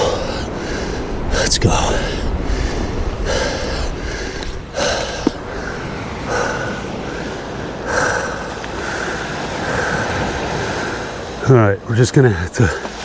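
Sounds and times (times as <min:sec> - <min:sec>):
man breathing hard: 0:00.0 - 0:11.3.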